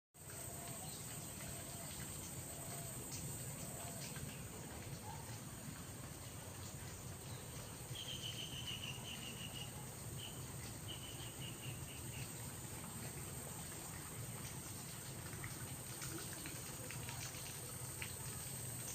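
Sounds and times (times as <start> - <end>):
low rumble and hiss: 0.2 - 18.9.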